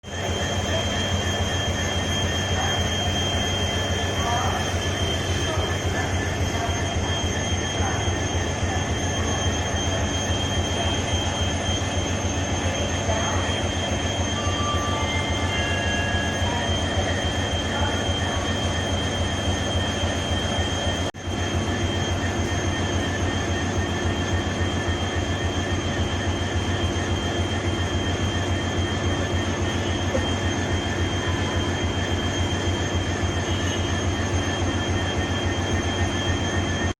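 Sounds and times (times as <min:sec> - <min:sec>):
diesel locomotive engines idling: 0:00.0 - 0:37.0
thin high whine: 0:00.0 - 0:37.0.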